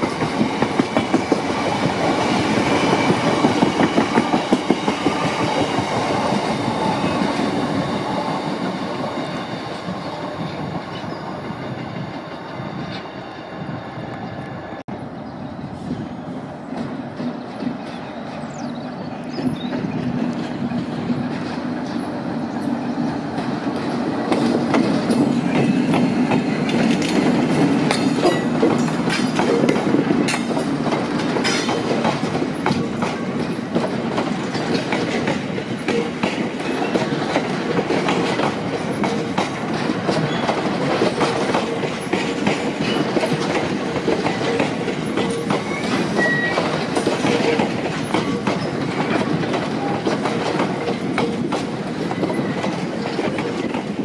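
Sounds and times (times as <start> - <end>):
wheels clacking over rail joints: 0.0 - 11.1, 16.7 - 54.0.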